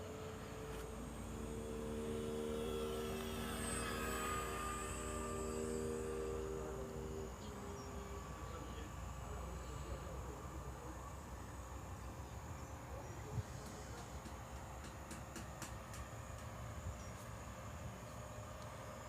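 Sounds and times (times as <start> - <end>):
model airplane motor humming: 0.0 - 19.0.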